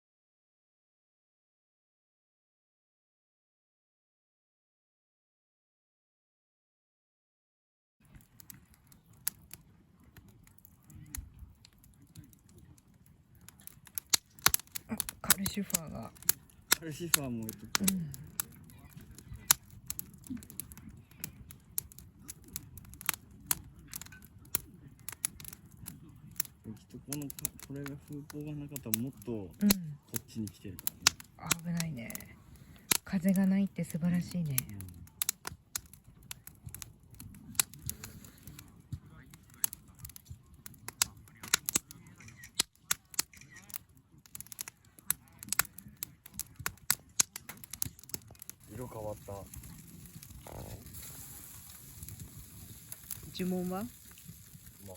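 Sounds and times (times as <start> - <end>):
campfire crackling and popping: 8.0 - 54.9
low rumble of burning: 8.0 - 54.9.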